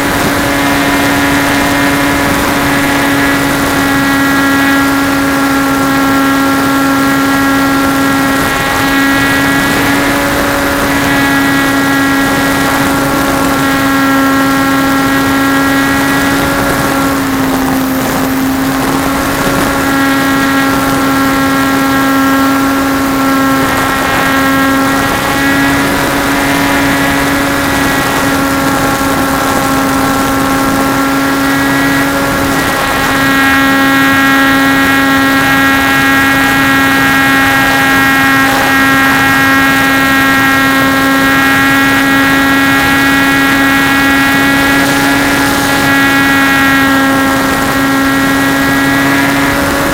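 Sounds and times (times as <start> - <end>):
model plane motor and propeller: 0.0 - 49.9
wind on microphone: 0.0 - 49.9.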